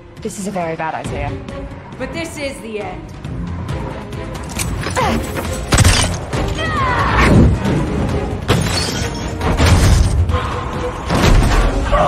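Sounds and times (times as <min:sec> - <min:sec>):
dramatic film score: 0:00.0 - 0:12.0.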